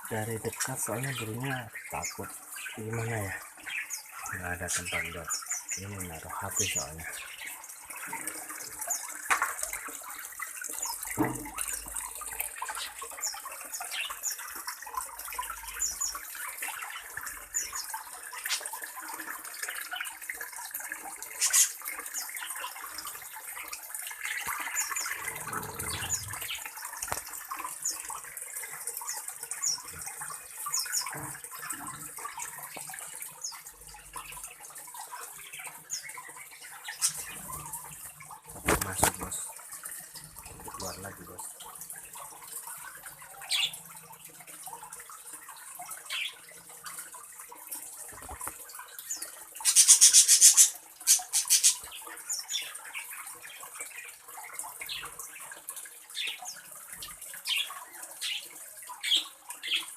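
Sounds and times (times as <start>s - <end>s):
running water hiss: 0.0s - 59.9s.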